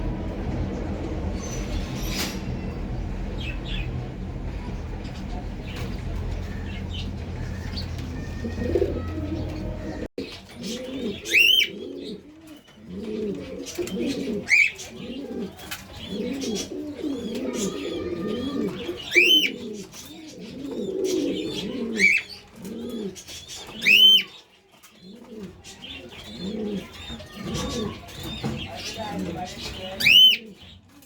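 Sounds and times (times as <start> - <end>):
pigeons cooing: 4.8 - 31.0.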